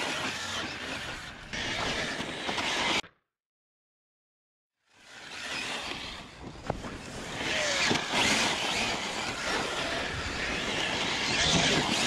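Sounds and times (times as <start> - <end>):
toy car tyres on dirt: 0.0 - 3.1, 4.8 - 12.0.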